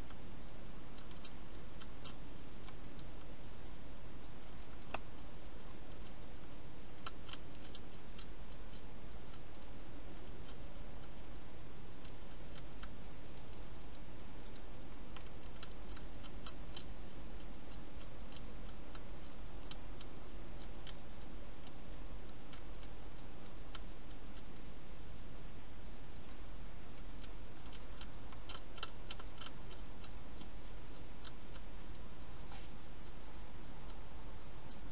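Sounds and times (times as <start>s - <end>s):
hedgehog crunching dry food: 0.0s - 34.9s.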